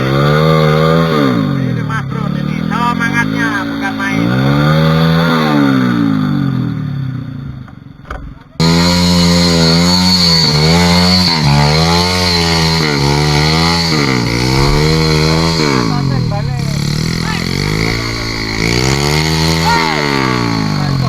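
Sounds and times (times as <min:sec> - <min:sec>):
dirt bike engine revving hard: 0:00.0 - 0:21.0.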